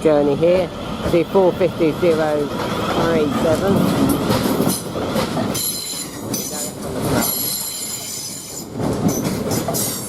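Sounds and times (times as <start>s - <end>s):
train carriages rumbling past: 0.0s - 10.0s.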